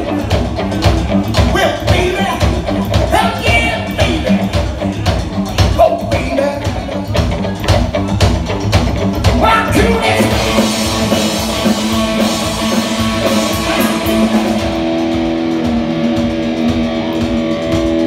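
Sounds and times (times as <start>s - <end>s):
electric guitars: 0.0s - 18.0s.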